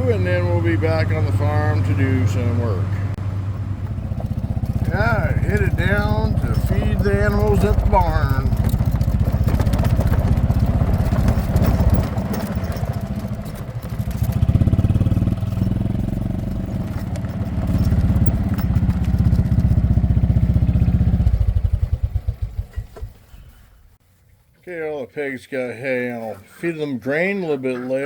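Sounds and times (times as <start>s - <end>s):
vehicle engine throbbing: 0.0s - 23.2s.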